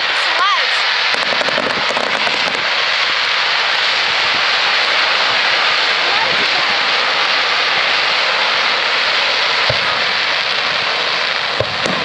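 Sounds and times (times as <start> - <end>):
fireworks crackling: 0.0 - 12.0
low firework boom: 1.0 - 12.0.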